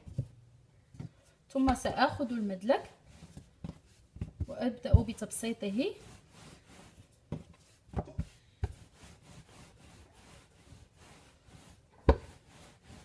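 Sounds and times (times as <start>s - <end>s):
rolling pin rubbing on dough: 1.0s - 13.0s.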